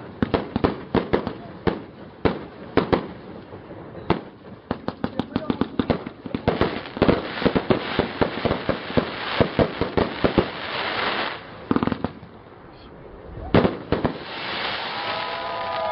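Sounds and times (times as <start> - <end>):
crackling bursts: 0.0 - 15.9
firework battery reports: 1.1 - 15.9.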